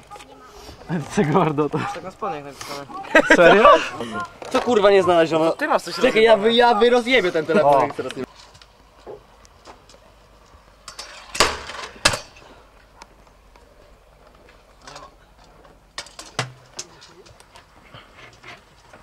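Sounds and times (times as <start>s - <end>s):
scooters clattering on concrete: 0.0s - 19.0s.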